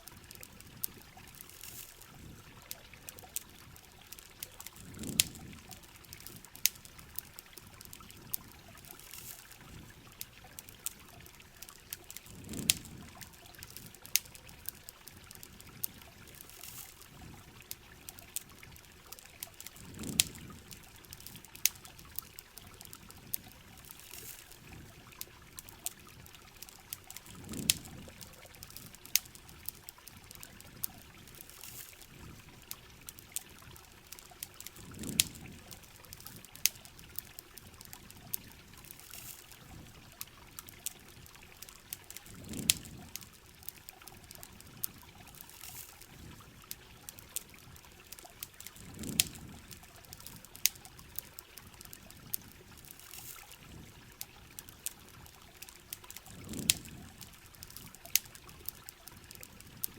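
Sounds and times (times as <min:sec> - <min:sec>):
campfire crackles: 0:00.0 - 0:59.9
running water: 0:00.0 - 0:59.9.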